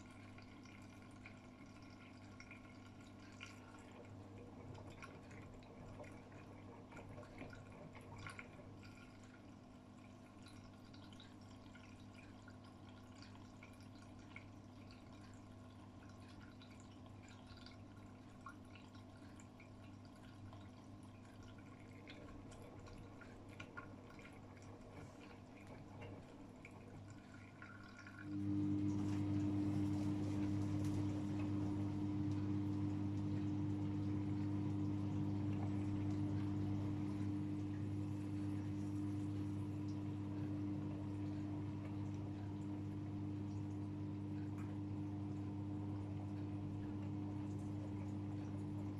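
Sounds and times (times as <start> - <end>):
low steady hum: 0.0 - 48.9
washing machine pump humming: 0.0 - 48.9
water trickling and dripping: 0.0 - 48.9.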